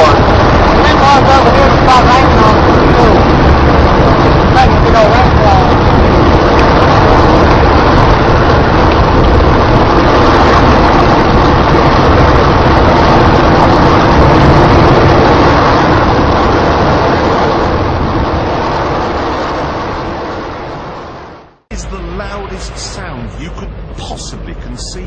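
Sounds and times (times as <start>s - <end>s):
rocket engine roaring: 0.0s - 25.0s.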